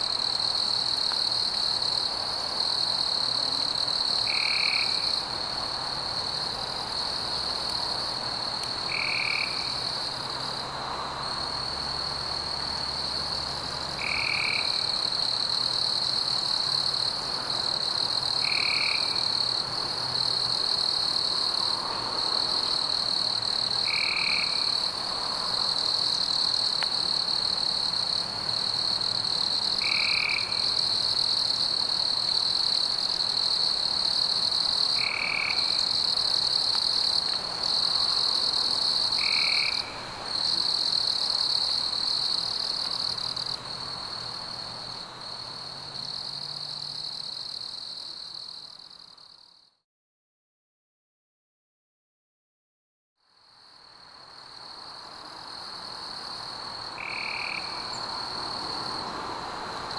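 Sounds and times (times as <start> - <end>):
insects and frogs trilling: 0.0 - 49.7, 53.4 - 59.9.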